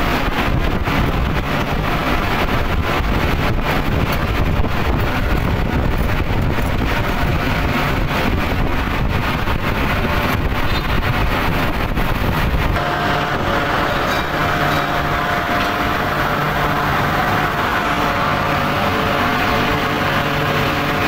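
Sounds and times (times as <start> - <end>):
loud industrial roar: 0.0 - 21.0
steady tonal hum: 0.0 - 21.0.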